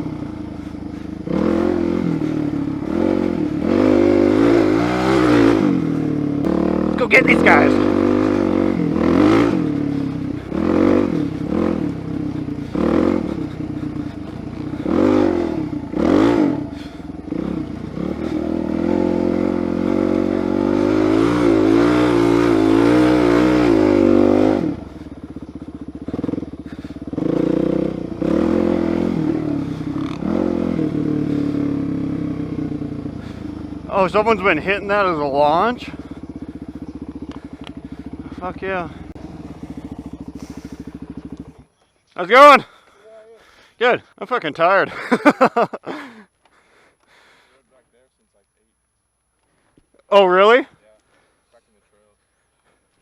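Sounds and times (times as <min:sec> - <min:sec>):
motorcycle engine revving: 0:00.0 - 0:43.7.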